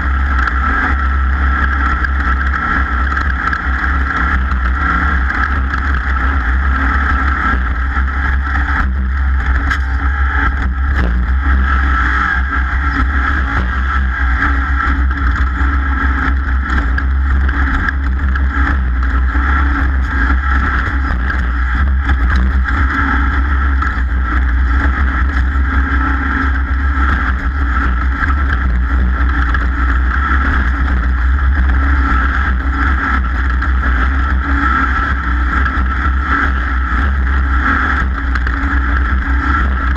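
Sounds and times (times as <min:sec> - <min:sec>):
powerboat engine drone: 0:00.0 - 0:39.9.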